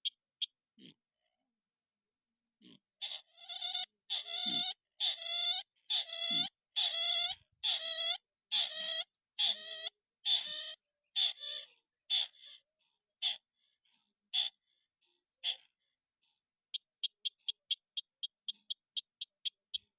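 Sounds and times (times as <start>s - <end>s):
bird calls: 2.6s - 19.9s.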